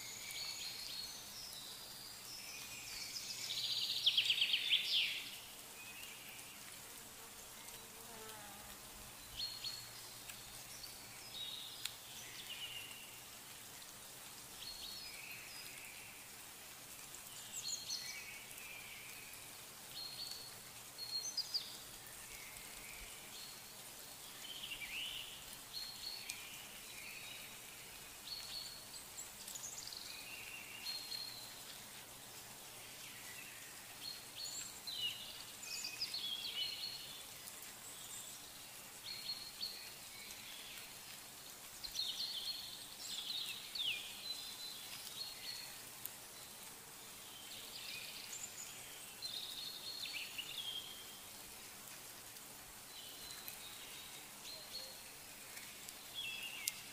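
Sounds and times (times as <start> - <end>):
faint outdoor hiss: 0.0 - 56.9.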